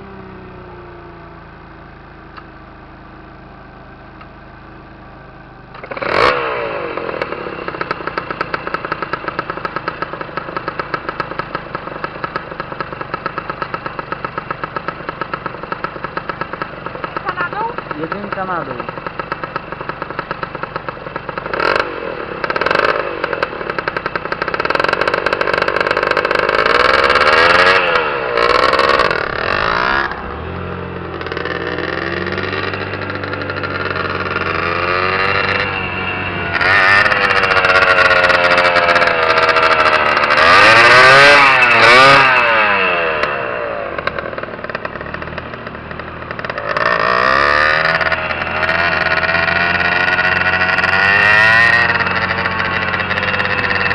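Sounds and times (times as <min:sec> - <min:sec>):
two-stroke motorbike engine revving: 0:03.8 - 0:53.9.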